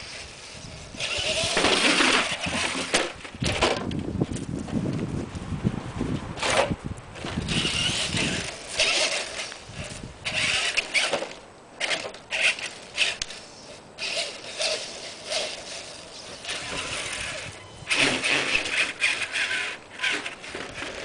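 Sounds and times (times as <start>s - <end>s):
electric toy truck motors whining: 0.0s - 3.2s, 7.2s - 21.0s.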